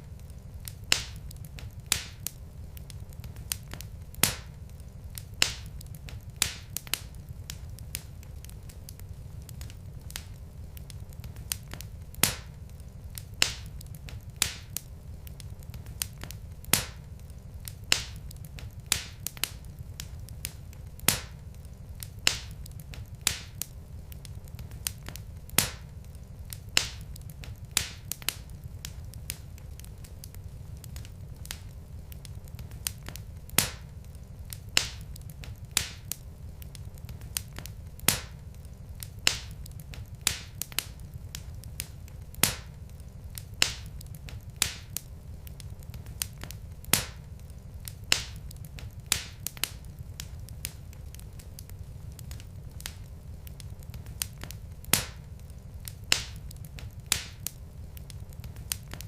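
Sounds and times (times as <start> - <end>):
steady low rumble: 0.0 - 59.0
wood fire crackling: 0.0 - 59.0.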